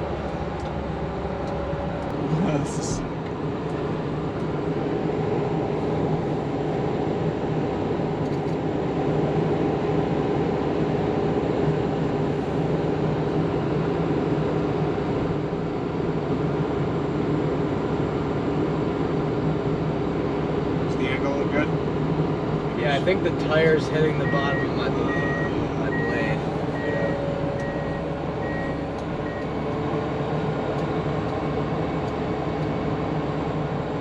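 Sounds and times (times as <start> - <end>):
diesel engine under load: 0.0 - 34.0.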